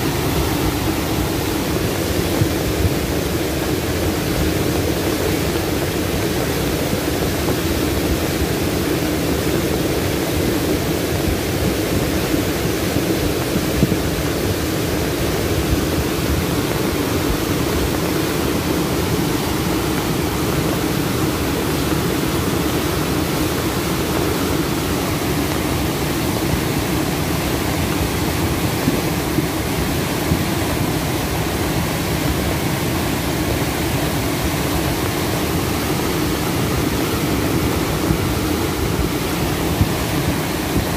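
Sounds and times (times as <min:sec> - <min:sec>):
river floodwater roaring: 0:00.0 - 0:40.9.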